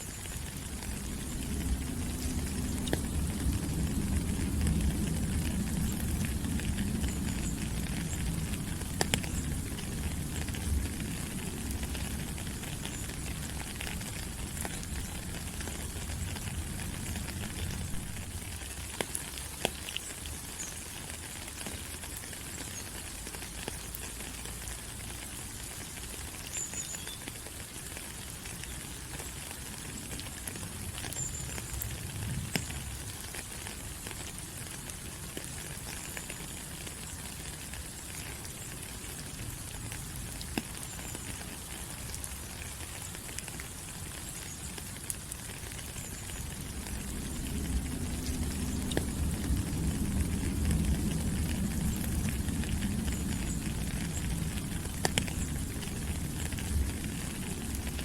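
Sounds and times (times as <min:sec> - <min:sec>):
rain on foliage: 0:00.0 - 0:58.0
water dripping: 0:00.0 - 0:58.0.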